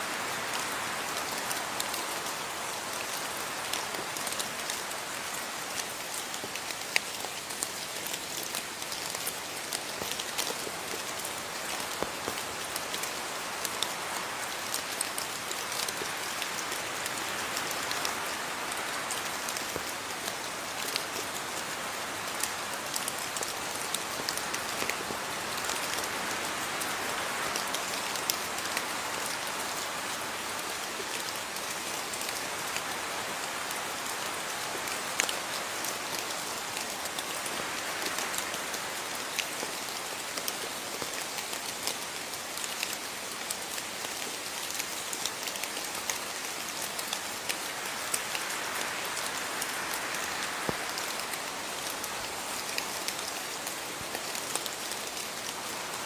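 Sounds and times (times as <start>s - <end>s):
steady rain hiss: 0.0s - 56.0s
raindrops pattering on a surface: 0.2s - 56.0s.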